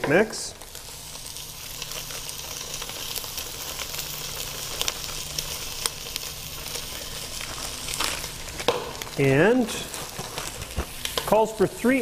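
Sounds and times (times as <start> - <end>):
meat sizzling in a roaster: 0.0 - 12.0.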